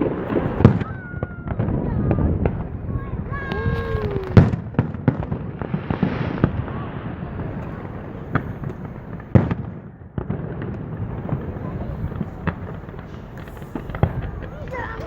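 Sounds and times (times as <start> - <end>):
firework shells bursting: 0.0 - 15.0
rumble of firework bursts: 0.0 - 15.0.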